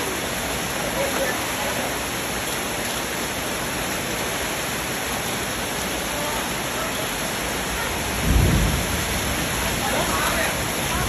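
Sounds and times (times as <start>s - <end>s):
heavy rain on floodwater: 0.0s - 11.0s.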